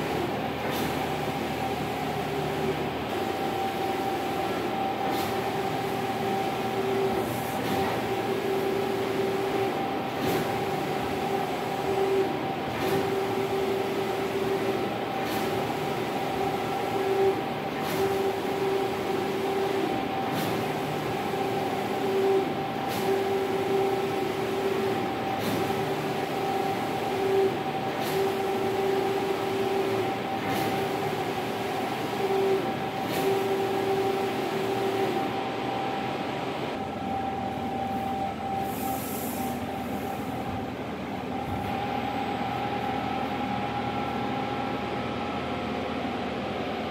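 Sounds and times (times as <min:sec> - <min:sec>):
printer motors humming and whining: 0:00.0 - 0:46.9.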